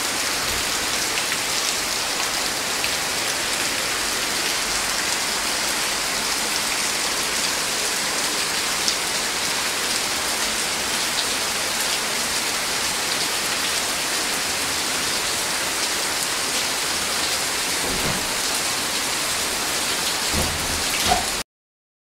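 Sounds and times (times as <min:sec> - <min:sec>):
steady rain hiss: 0:00.0 - 0:21.4.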